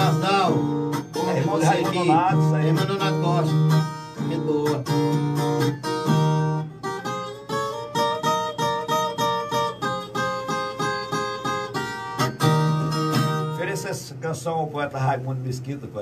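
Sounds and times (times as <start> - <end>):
ten-string viola strummed and picked: 0.0 - 14.0.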